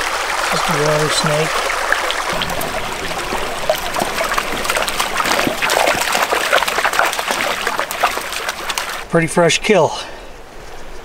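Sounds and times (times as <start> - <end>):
dog splashing through water: 0.0 - 9.1
creek trickling over rocks: 0.0 - 9.6.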